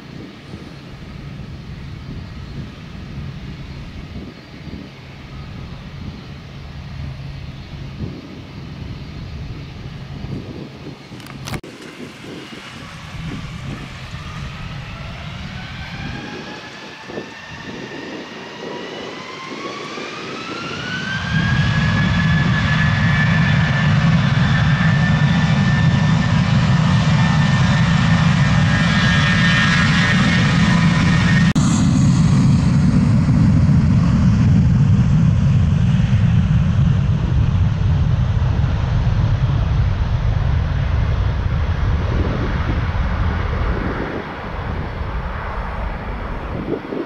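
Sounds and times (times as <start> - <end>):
jet engines whining and roaring: 0.0 - 47.0.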